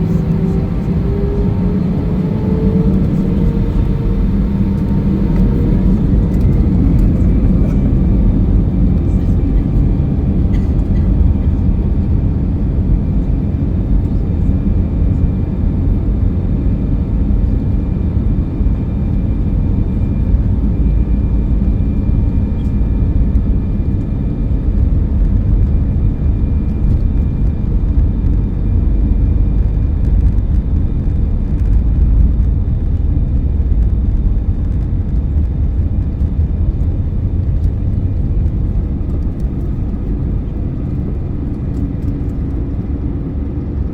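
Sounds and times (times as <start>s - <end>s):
faint steady whines: 0.0s - 43.9s
jet engine and airflow rumble: 0.0s - 43.9s.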